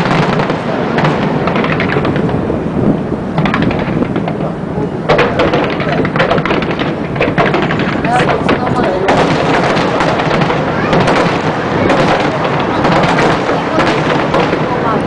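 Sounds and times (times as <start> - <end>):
firework crackling: 0.0 - 15.0
firework shells booming: 0.0 - 15.0.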